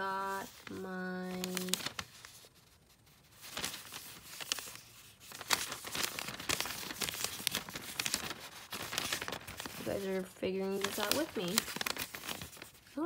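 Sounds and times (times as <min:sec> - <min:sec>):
paper strip rustling and crinkling: 0:00.0 - 0:13.0.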